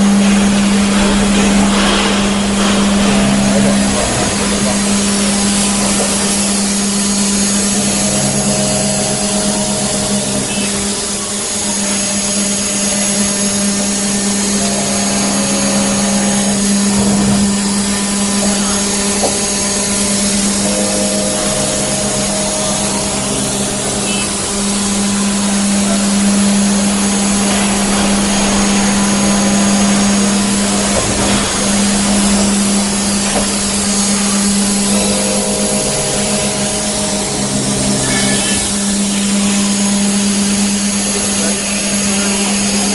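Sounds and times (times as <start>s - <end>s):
router humming and rushing: 0.0s - 42.9s
short machine tones: 0.0s - 42.9s.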